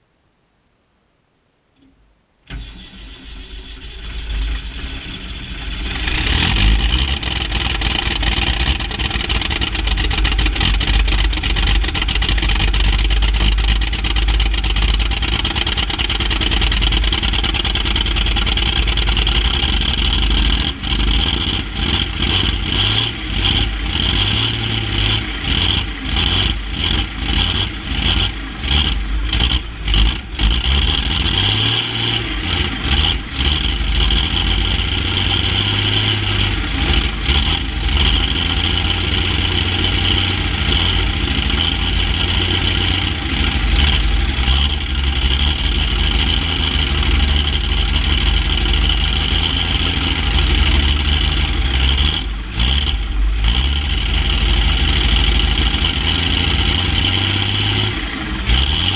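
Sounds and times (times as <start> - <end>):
engine running unevenly: 2.5 - 58.9.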